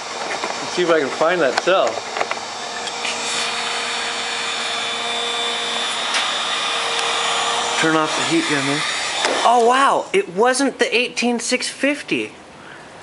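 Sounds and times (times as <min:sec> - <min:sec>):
heat gun fan blowing: 0:00.0 - 0:10.4.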